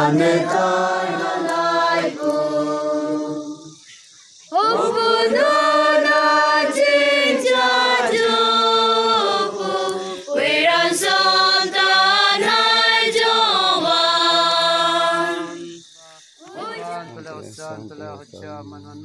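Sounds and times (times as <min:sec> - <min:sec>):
choir singing long notes: 0:00.0 - 0:03.8, 0:04.5 - 0:15.8, 0:16.4 - 0:17.4.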